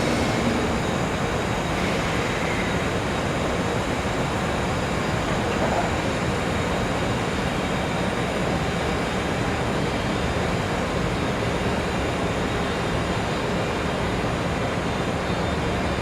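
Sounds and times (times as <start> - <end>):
freight train rumbling on rails: 0.0 - 16.0.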